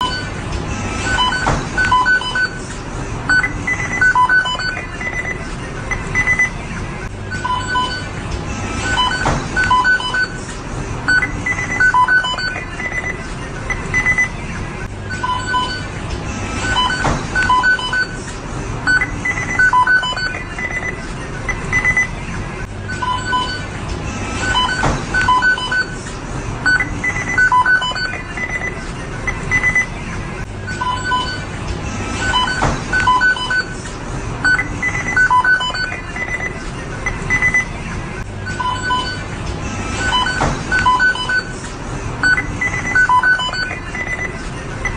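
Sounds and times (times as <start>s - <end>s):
equipment timers beeping: 0.0s - 44.9s
kitchen machinery hum: 0.0s - 44.9s.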